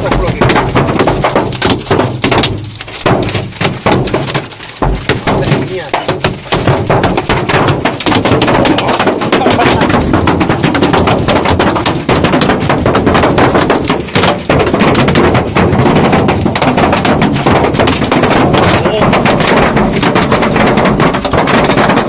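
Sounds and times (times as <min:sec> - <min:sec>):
hail pelting down: 0:00.0 - 0:22.0.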